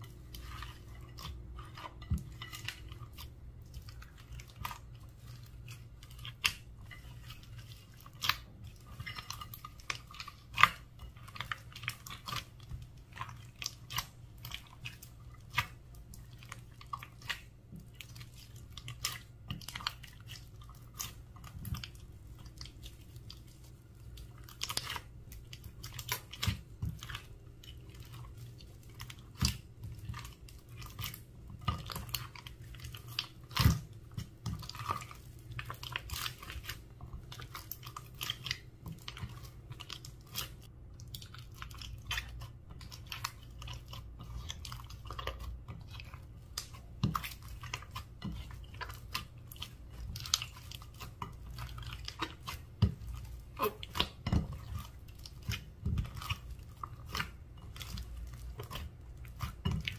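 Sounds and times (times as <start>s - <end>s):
slime being kneaded by hand: 0.0s - 59.9s.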